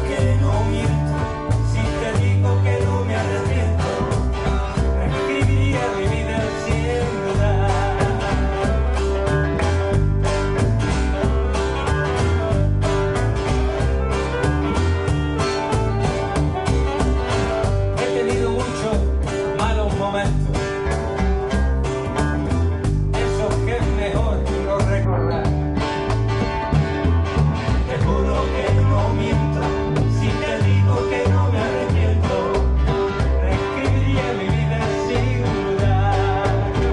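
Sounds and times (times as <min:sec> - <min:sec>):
cajon drum beat: 0:00.0 - 0:36.9
classical guitars strumming: 0:00.0 - 0:36.9
upright double bass: 0:00.0 - 0:36.9.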